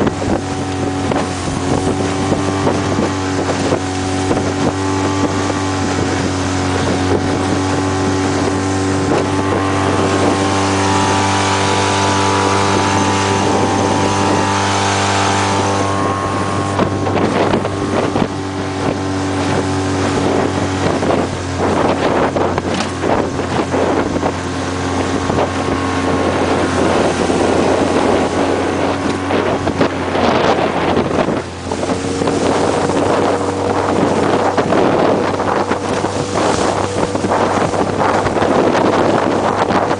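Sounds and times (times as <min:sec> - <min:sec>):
outboard engine running: 0:00.0 - 0:39.9
water noise: 0:00.0 - 0:39.9
wind on microphone: 0:00.0 - 0:39.9.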